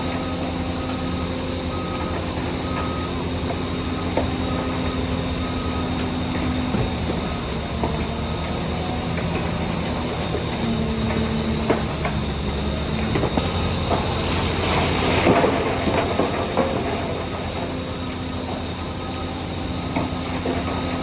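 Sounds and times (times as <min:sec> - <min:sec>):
bulldozer diesel engine running: 0:00.0 - 0:21.0
steel tracks clanking and squealing: 0:00.0 - 0:21.0.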